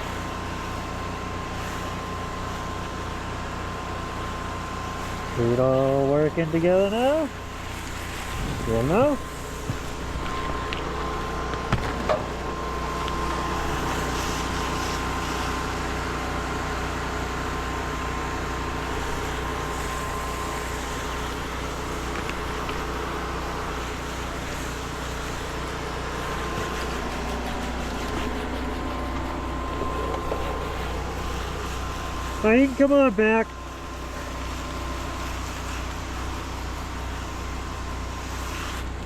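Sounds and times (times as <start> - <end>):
small engine and pump humming: 0.0 - 39.0
spray hissing onto roof: 0.0 - 39.0
thin steady whine: 0.0 - 39.0.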